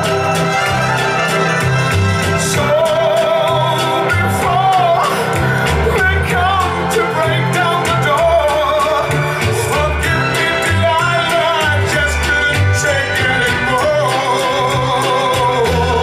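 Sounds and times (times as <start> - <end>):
song with singing over beat: 0.0 - 16.0.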